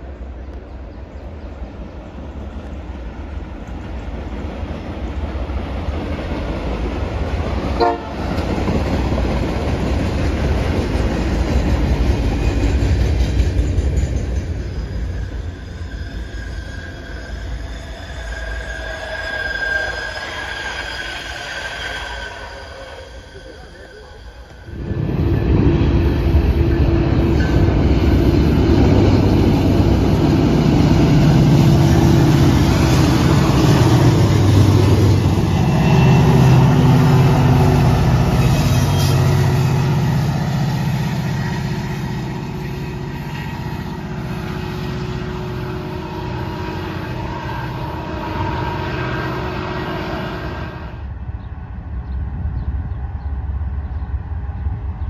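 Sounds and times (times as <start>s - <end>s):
locomotive engine droning: 0.0s - 55.0s.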